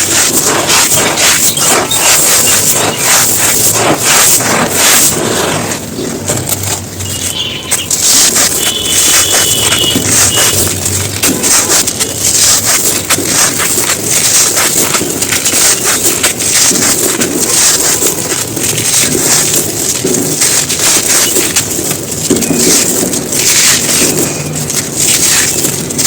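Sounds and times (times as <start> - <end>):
dry lumps crushed by hand: 0.0 - 26.0.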